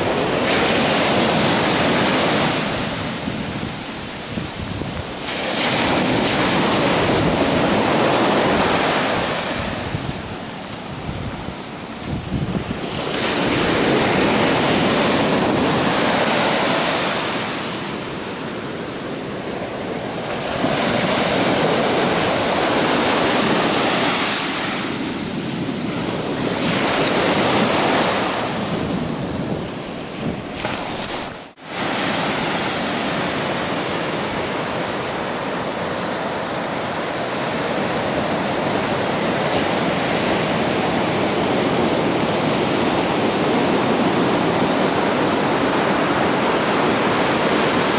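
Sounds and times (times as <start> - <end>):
ocean surf breaking on beach: 0.0 - 47.9.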